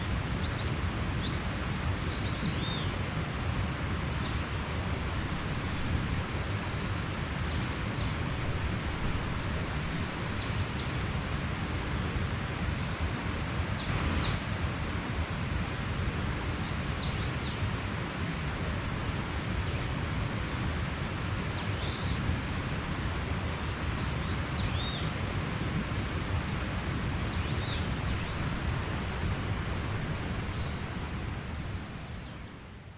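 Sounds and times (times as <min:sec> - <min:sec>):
mountain stream rushing: 0:00.0 - 0:32.9.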